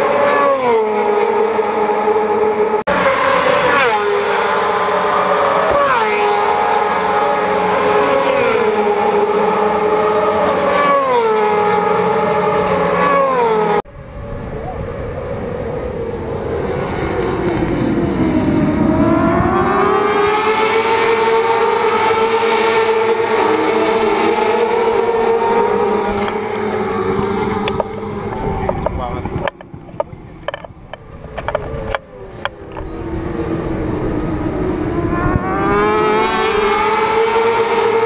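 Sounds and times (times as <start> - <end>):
motorcycle engines revving high: 0.0 - 38.0.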